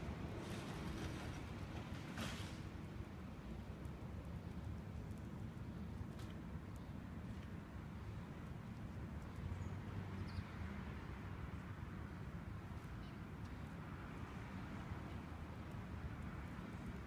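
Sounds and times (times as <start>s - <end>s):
low outdoor background rumble: 0.0s - 17.0s.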